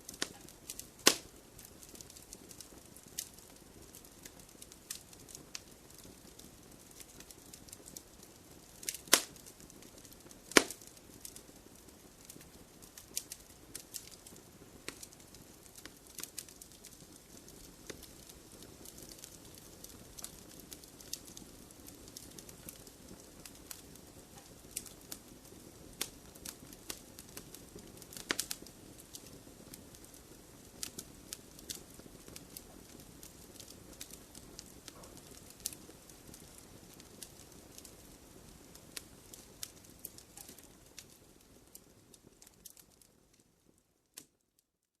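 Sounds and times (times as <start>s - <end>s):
low rush of flame: 0.0s - 43.8s
wood fire crackling and popping: 0.0s - 44.6s.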